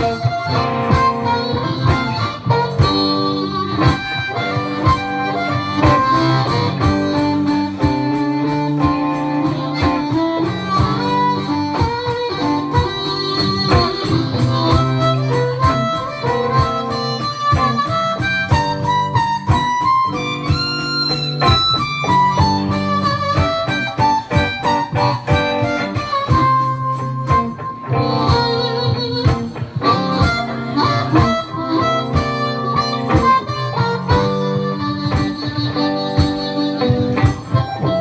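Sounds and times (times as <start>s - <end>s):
amplified blues harmonica: 0.0s - 38.0s
electric guitar: 0.0s - 38.0s.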